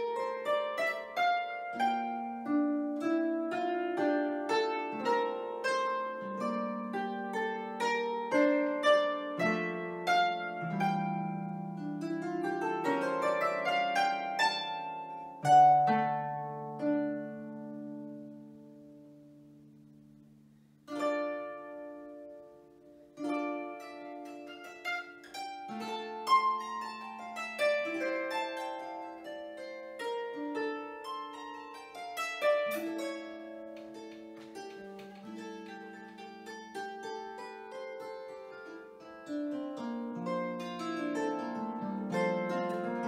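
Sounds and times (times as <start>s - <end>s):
harp playing: 0.0s - 43.0s.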